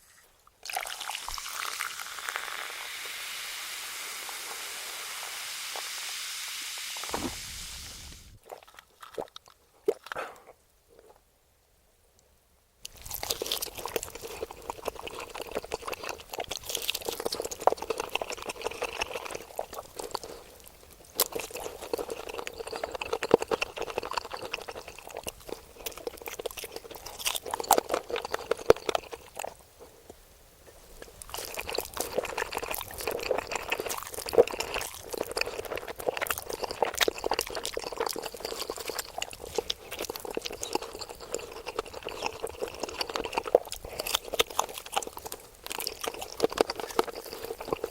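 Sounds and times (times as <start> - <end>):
slurping and chewing noodles: 0.0 - 3.2, 7.1 - 11.2, 12.9 - 30.2, 30.8 - 47.9.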